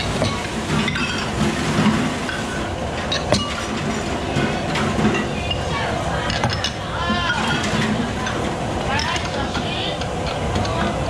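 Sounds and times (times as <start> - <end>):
ladle clinking against bowls: 0.0 - 11.0
rumbling kitchen noise: 0.0 - 11.0.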